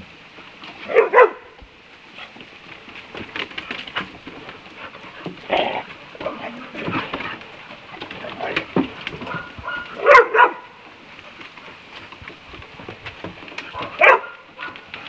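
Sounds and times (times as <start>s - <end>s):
scuffling: 0.0s - 15.0s
dogs panting: 0.4s - 15.0s
claws clicking on wooden boards: 2.2s - 15.0s.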